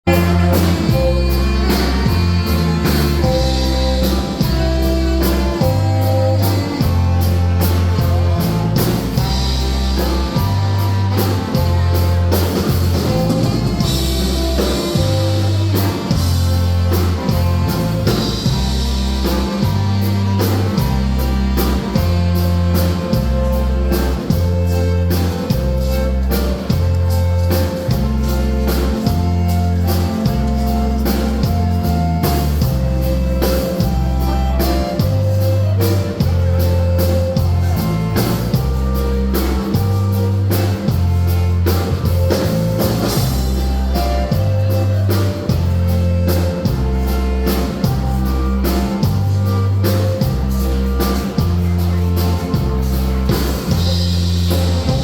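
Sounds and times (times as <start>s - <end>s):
live band playing a waltz: 0.0s - 55.0s
repeating bass line: 0.0s - 55.0s.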